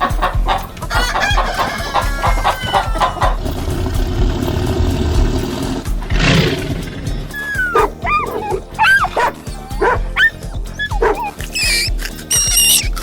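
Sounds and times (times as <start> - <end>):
animal calls: 0.0 - 13.0
background music with beat: 0.0 - 13.0.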